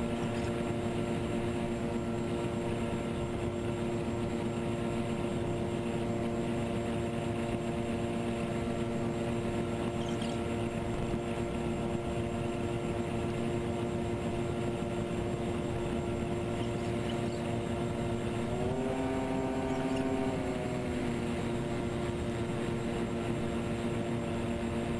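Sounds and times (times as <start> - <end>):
electric motors and propellers running: 0.0 - 24.9.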